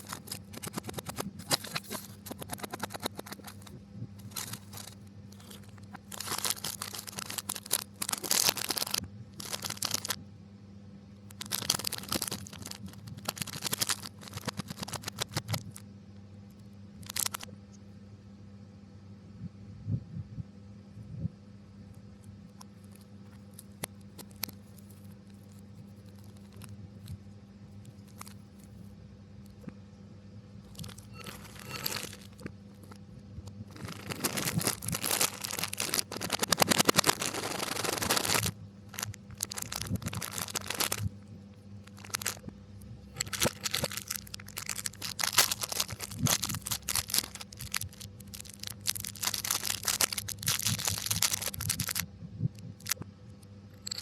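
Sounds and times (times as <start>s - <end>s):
reversed packaging crinkling and tearing: 0.0s - 10.2s, 11.3s - 15.8s, 17.0s - 17.5s, 22.6s - 27.2s, 27.8s - 28.9s, 30.7s - 53.0s
steady low hum: 0.0s - 54.0s.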